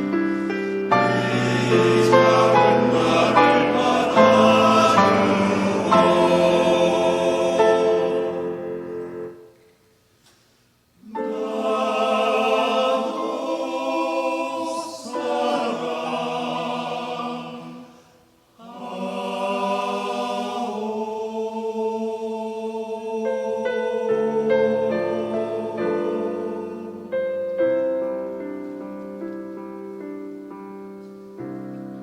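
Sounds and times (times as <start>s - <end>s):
church choir singing: 0.0s - 9.9s, 11.0s - 32.0s.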